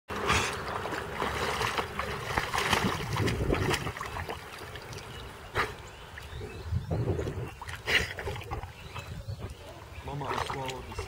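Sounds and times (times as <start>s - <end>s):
dog wading through water: 0.1s - 11.0s.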